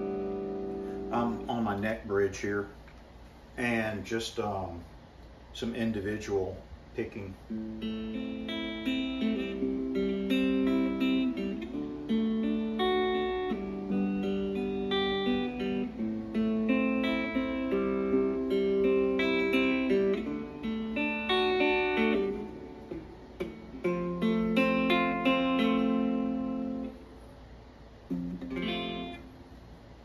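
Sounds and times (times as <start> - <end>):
clean electric guitar picking: 0.0 - 2.2, 7.4 - 27.3, 27.9 - 30.0.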